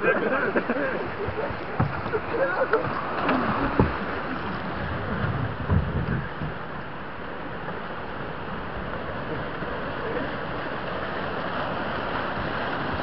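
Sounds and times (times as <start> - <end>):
water rushing through weir: 0.0 - 13.0.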